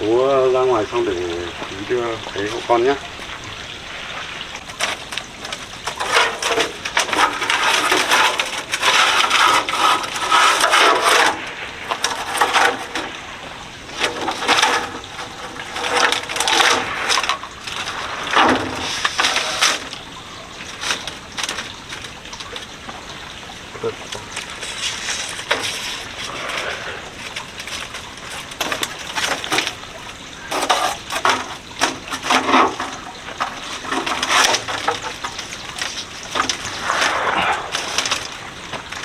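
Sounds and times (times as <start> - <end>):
bamboo strips rustling and clacking: 0.0 - 39.0.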